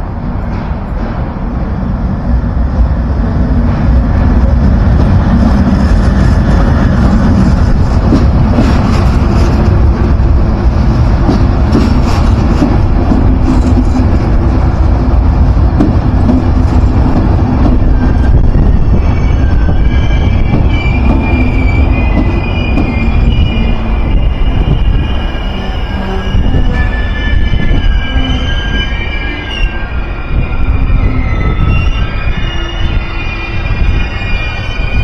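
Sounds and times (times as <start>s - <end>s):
train rolling past: 0.0s - 35.0s.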